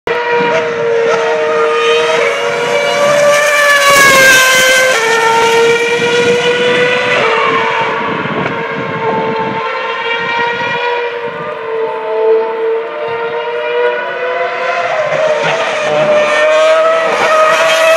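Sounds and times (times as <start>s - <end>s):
racing car engine screaming: 0.2s - 17.9s.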